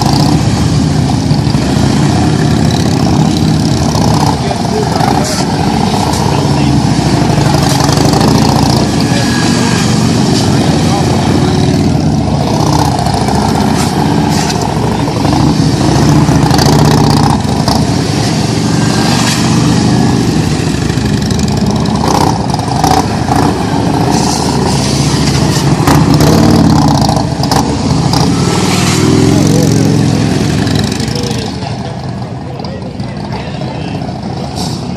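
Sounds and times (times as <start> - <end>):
motorcycle engines revving: 0.0 - 34.9.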